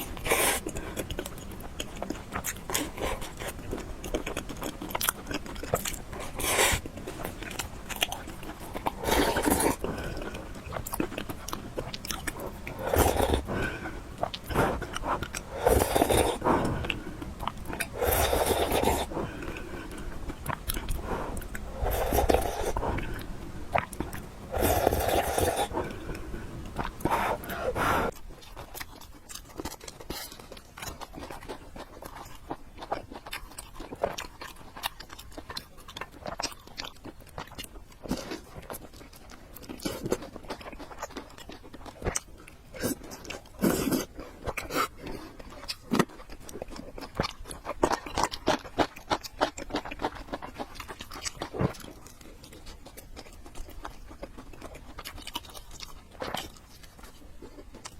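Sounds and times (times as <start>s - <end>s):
person chewing noodles: 0.0s - 57.9s.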